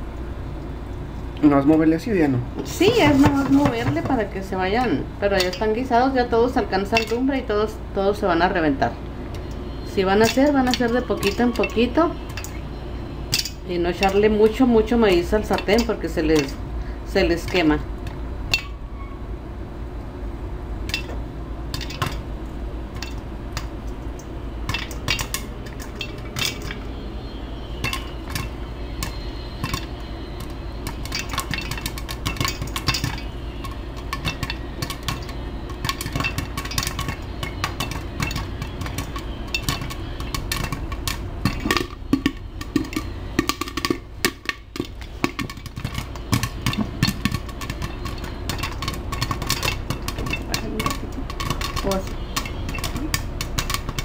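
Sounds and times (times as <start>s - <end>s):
popcorn popping in a pan: 2.6s - 7.5s, 9.4s - 18.8s, 20.8s - 54.0s.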